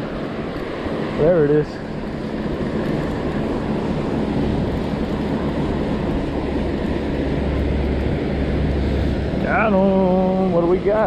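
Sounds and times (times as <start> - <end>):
surf washing: 0.0 - 11.0
wind rumble on microphone: 0.0 - 11.0.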